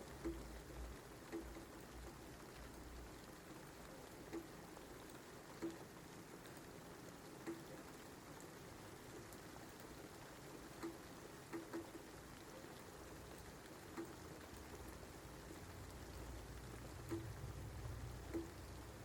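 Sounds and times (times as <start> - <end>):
louder raindrops landing: 0.0 - 19.0
soft steady rain: 0.0 - 19.0.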